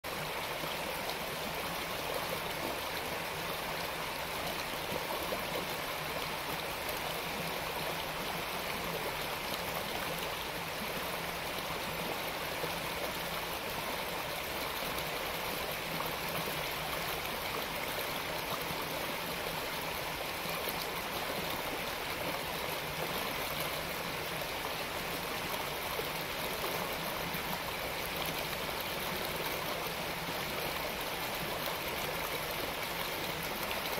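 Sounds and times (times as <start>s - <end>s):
creek water rushing over rocks: 0.0s - 33.9s.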